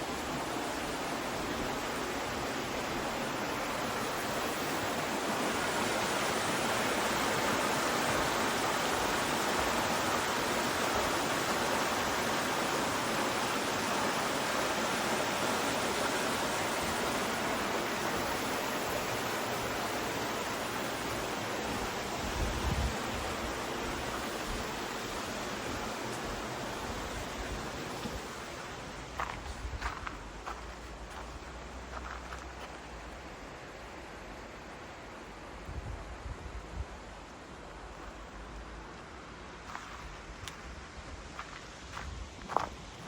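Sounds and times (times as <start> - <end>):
flowing water rushing: 0.0 - 35.6.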